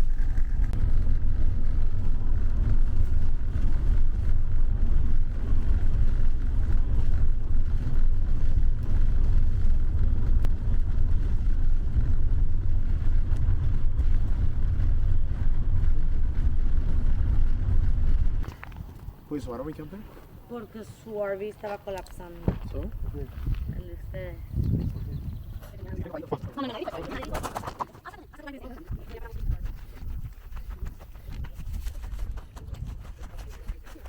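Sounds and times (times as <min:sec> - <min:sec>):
moving vehicle rumble: 0:00.0 - 0:34.0.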